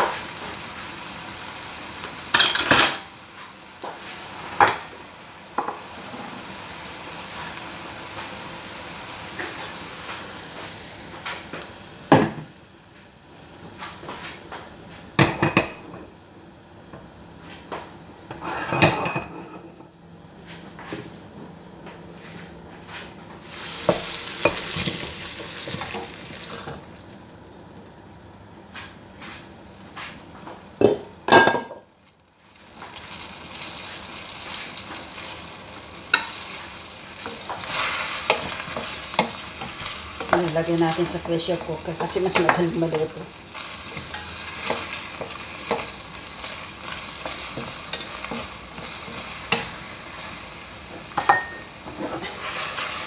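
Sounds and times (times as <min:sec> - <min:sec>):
food sizzling: 0:00.0 - 0:53.0.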